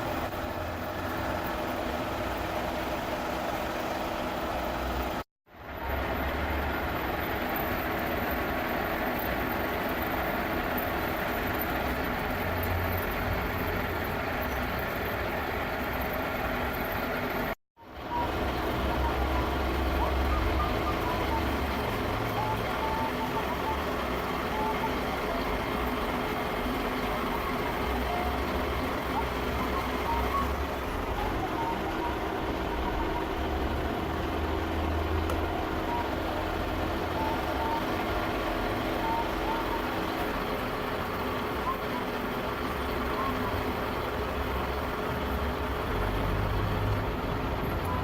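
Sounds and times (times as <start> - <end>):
machinery running with low hum: 0.0 - 48.0.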